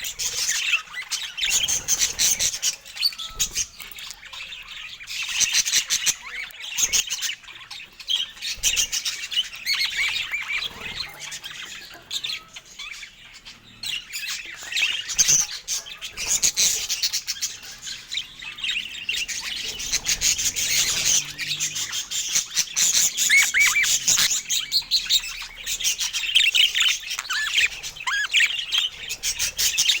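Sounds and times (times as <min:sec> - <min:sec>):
budgerigars chattering and warbling: 0:00.0 - 0:30.0.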